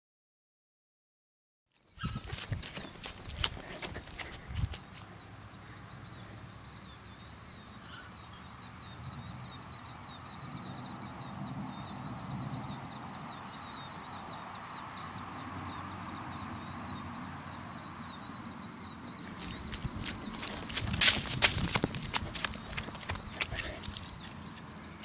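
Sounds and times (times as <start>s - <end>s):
bird chirping: 1.7s - 25.0s
outdoor background noise: 1.7s - 25.0s.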